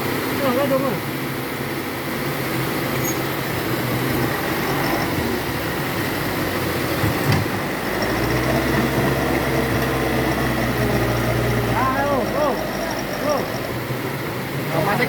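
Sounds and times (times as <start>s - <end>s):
diesel truck engine under load: 0.0s - 15.0s.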